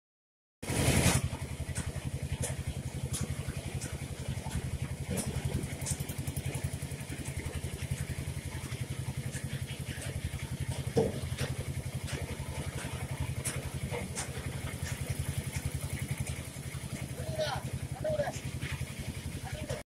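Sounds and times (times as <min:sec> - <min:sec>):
engine idling: 0:00.7 - 0:19.8.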